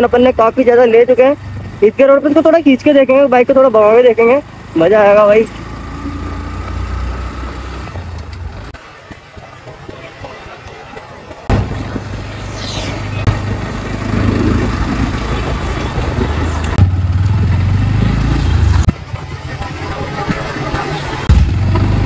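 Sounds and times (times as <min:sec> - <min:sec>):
motorcycle engine running: 0:00.0 - 0:22.0
motorcycles approaching: 0:00.0 - 0:22.0
road traffic engine hum: 0:00.0 - 0:22.0.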